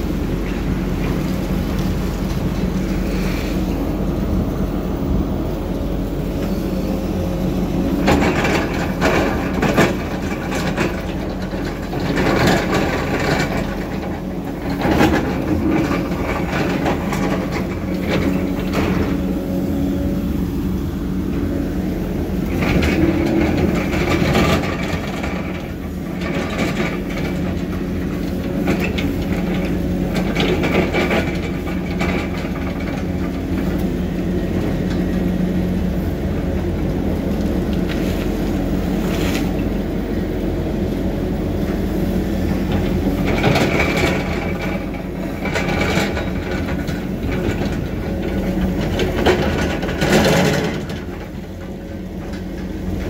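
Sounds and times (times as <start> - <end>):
heavy machinery engine running: 0.0 - 53.0.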